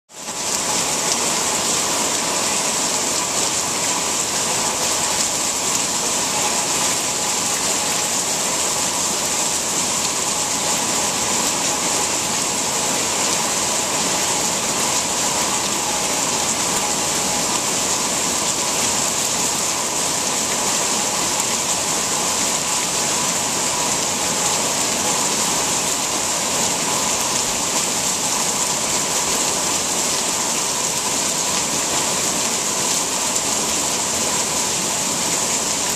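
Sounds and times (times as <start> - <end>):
heavy rain pouring into a pool: 0.1 - 35.9.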